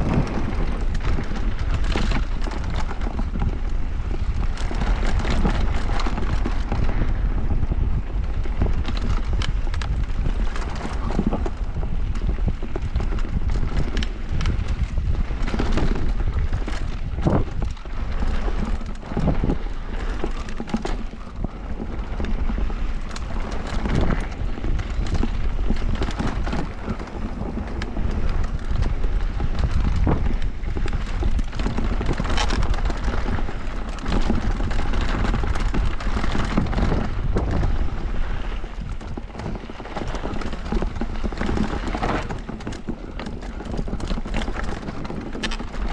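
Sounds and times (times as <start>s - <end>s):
bike rattling over bumps: 0.0s - 45.9s
bike tyres on dirt: 0.0s - 45.9s
wind noise on microphone: 0.0s - 45.9s.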